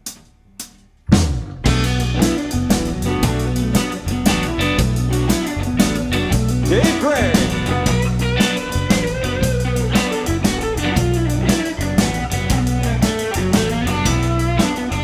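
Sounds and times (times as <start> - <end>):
drum kit: 0.0 - 15.0
bass guitar: 1.1 - 15.0
electric guitar solo: 2.0 - 15.0.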